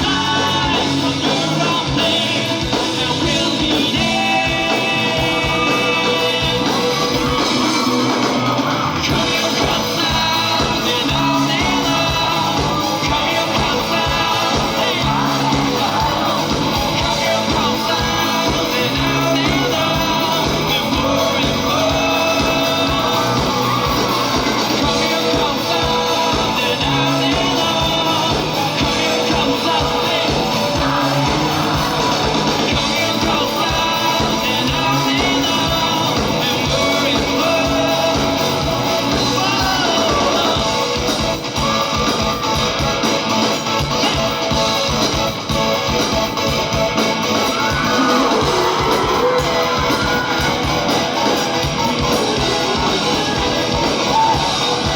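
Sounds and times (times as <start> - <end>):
person singing lead vocal: 0.0 - 45.2, 47.1 - 54.9
live rock band playing: 0.0 - 54.9.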